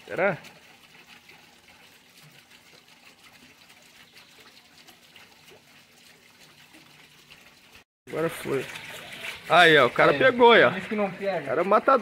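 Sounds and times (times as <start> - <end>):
water trickling into tank: 0.0 - 12.0.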